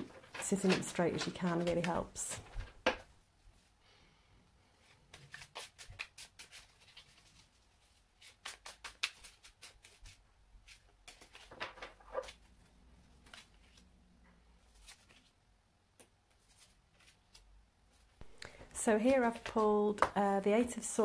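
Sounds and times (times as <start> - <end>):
cards being shuffled: 0.0 - 3.1, 5.1 - 13.9, 14.6 - 15.3, 16.0 - 21.0.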